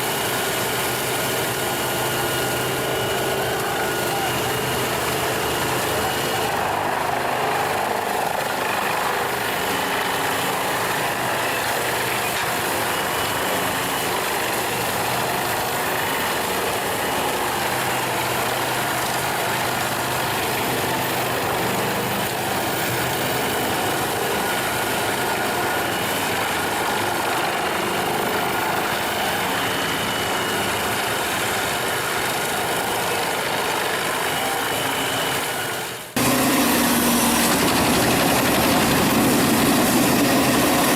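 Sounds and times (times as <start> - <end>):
wood chipper running: 0.0 - 29.0, 35.4 - 40.9.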